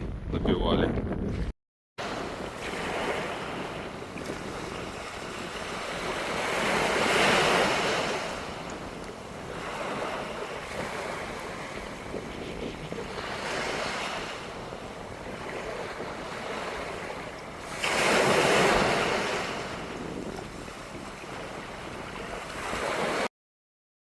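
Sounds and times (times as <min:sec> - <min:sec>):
wind on microphone: 0:00.0 - 0:23.3
surf rushing: 0:02.0 - 0:23.3.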